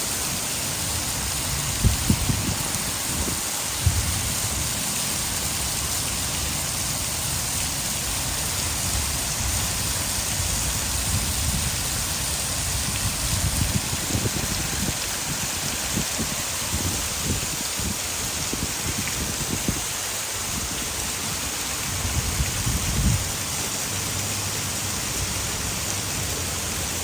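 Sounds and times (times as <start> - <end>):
heavy rain falling: 0.0 - 27.0
water pouring over a dam: 0.0 - 27.0.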